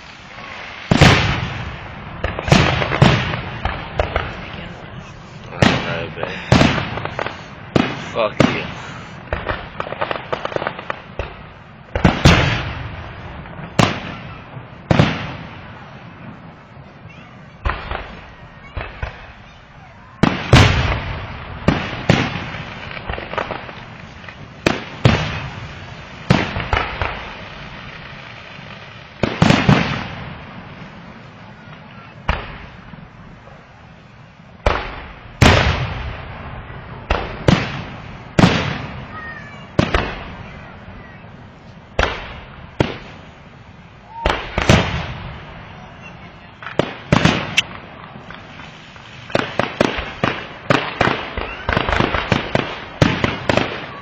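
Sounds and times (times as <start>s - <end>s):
fireworks bangs with echo: 0.0s - 54.0s.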